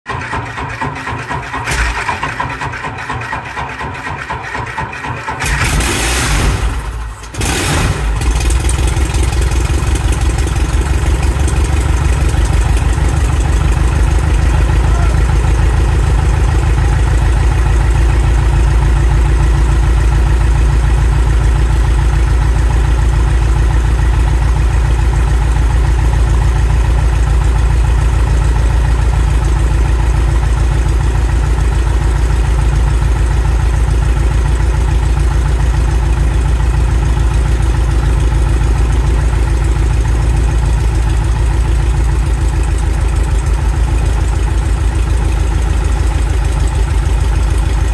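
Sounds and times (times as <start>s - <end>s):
aircraft engine starting and idling: 0.1s - 47.9s.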